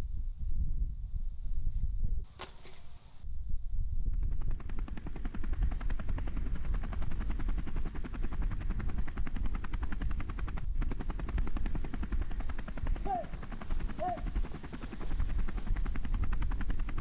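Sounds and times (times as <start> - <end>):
helicopter rotor chopping: 2.3 - 3.2, 4.2 - 17.0.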